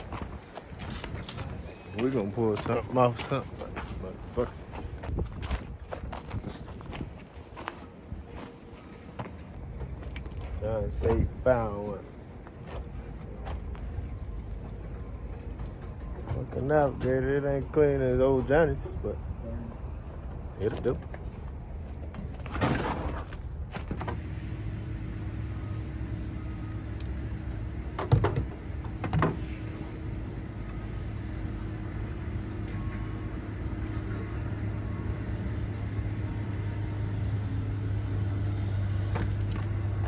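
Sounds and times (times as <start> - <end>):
motor vehicle humming: 0.0 - 40.0.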